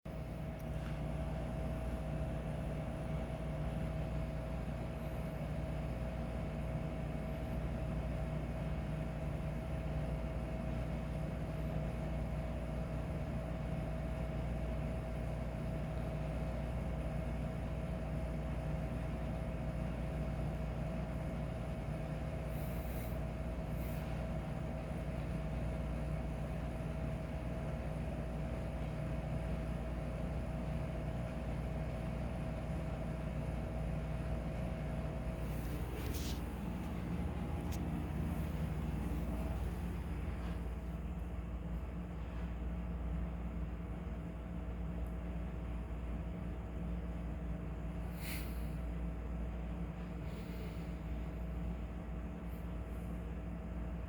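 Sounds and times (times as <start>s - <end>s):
steady low hum: 0.1s - 54.0s.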